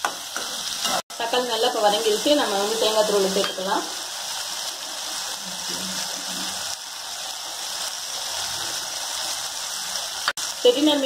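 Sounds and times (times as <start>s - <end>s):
food frying in hot oil: 0.0s - 11.0s.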